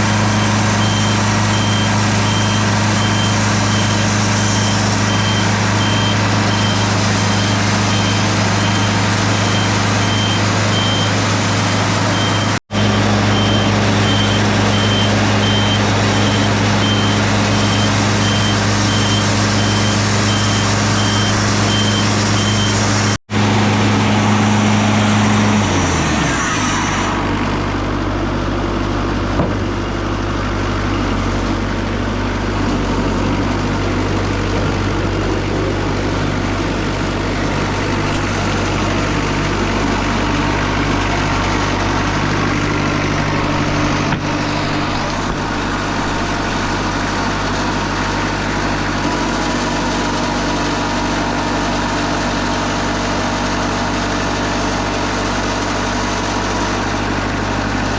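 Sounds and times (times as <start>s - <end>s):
heavy engine revving down: 0.0s - 57.9s.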